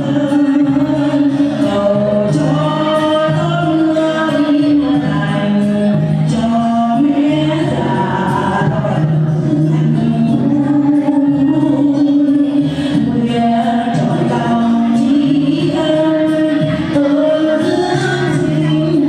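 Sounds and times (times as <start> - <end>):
musical accompaniment: 0.0 - 19.0
people singing: 0.0 - 19.0.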